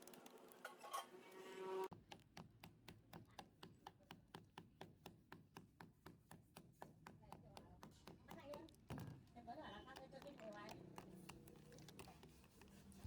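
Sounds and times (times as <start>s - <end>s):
faint rapid tapping: 1.9s - 13.0s.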